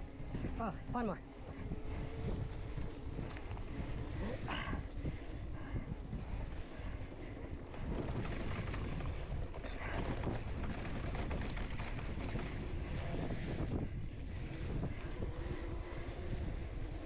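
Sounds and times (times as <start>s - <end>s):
bike rattling: 0.0s - 17.0s
bike tyres on dirt and rocks: 0.0s - 17.0s
wind on microphone: 0.0s - 17.0s.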